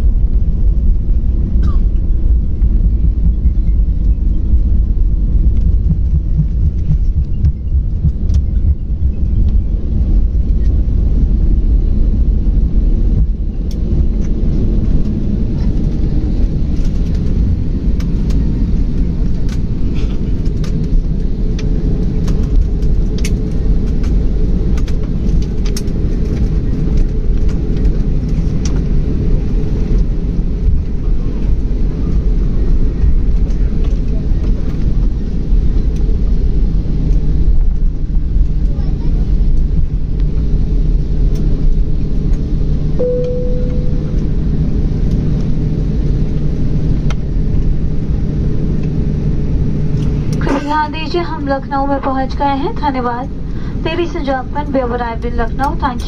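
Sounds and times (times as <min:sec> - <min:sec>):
airliner engine rumble in cabin: 0:00.0 - 0:56.0.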